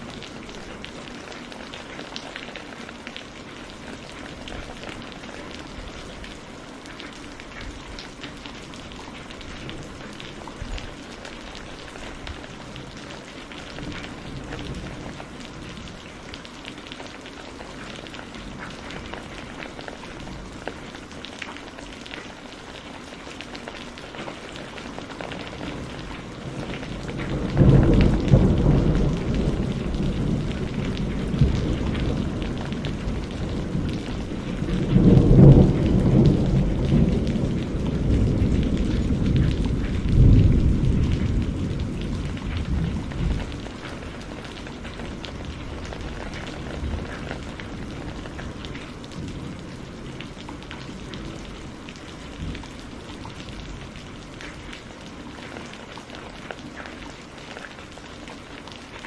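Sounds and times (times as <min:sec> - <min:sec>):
low rumble of thunder: 0:00.0 - 0:21.3, 0:23.6 - 0:56.4
small crackles: 0:00.0 - 0:59.0
steady rain falling: 0:00.0 - 0:59.0.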